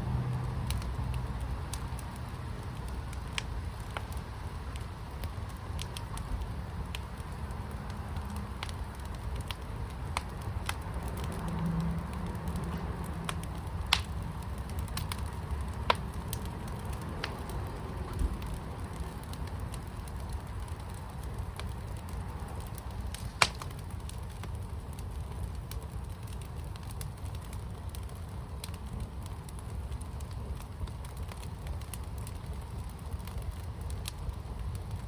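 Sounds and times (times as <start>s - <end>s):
fire burning low rumble: 0.0s - 35.0s
fire crackling pops: 0.0s - 35.0s.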